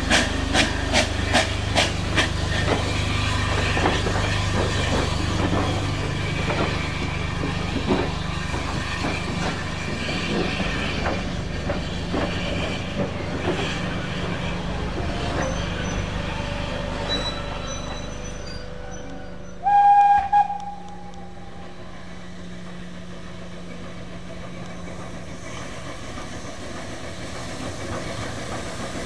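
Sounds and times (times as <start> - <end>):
low train rumble: 0.0 - 29.0
train wheels clicking and clattering: 0.0 - 29.0.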